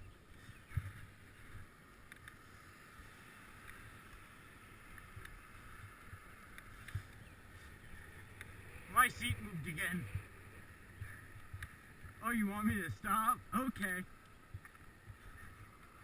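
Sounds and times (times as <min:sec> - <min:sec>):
bicycle rolling: 0:00.0 - 0:16.0.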